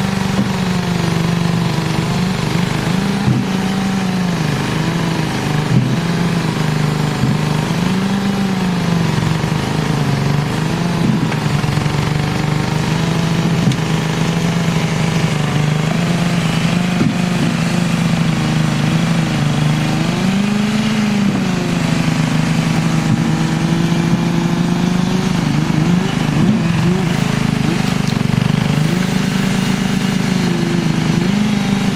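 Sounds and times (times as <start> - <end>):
machine engine revving: 0.0 - 31.9.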